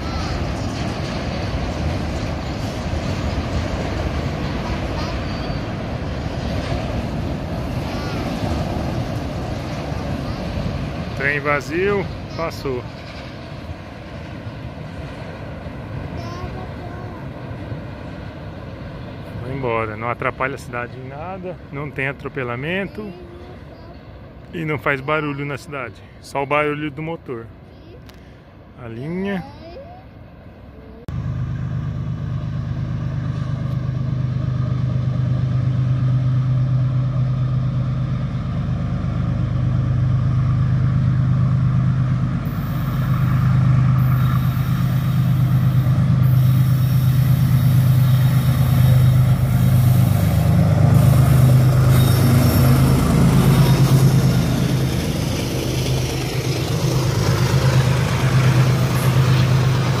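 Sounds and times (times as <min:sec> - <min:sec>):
train wagons rattling on rails: 0:00.0 - 0:25.4, 0:32.6 - 1:00.0
diesel locomotive engine drone: 0:00.0 - 1:00.0.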